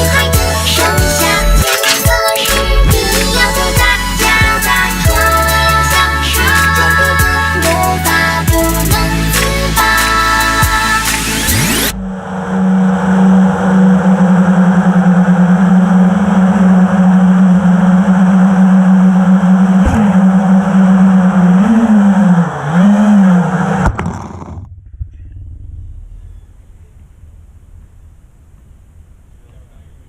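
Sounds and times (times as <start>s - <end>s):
drone motors buzzing: 0.0s - 27.0s.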